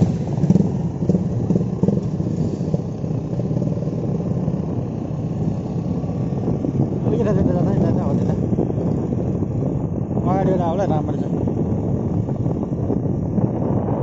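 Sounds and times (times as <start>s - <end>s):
motorcycle engine droning: 0.0s - 14.0s
wind rushing over microphone: 0.0s - 14.0s.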